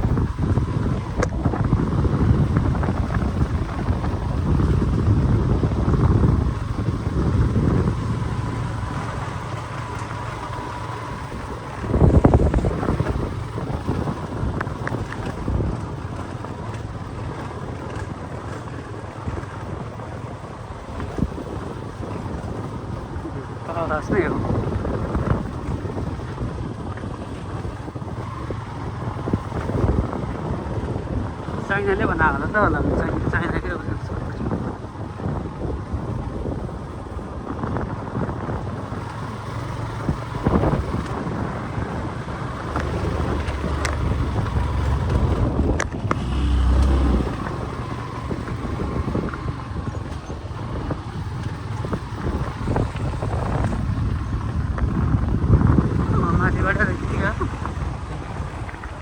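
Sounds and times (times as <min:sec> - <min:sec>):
moving vehicle rumble: 0:00.0 - 0:59.0
wind buffeting microphone: 0:00.0 - 0:59.0.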